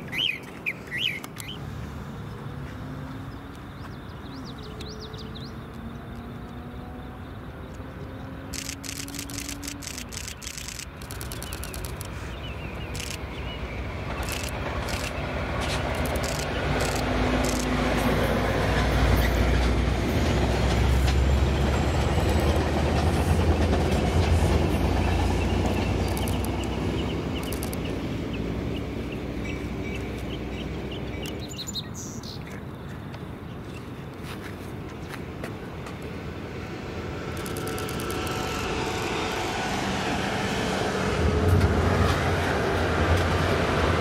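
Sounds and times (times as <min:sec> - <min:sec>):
train passing by: 0:00.0 - 0:44.0.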